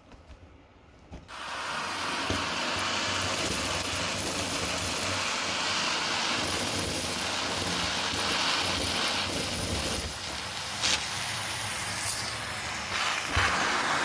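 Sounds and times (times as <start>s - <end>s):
vacuum cleaner running: 1.3s - 14.0s.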